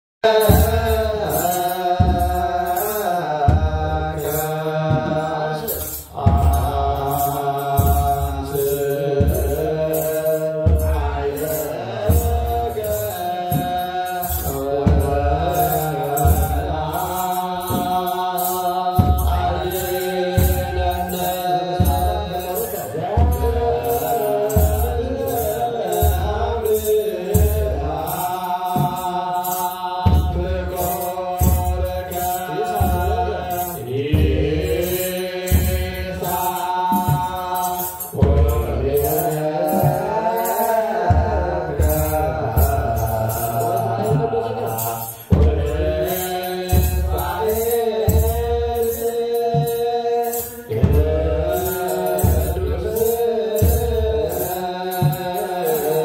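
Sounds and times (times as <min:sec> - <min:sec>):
group chanting: 0:00.2 - 0:56.0
steady drum beat: 0:00.2 - 0:56.0.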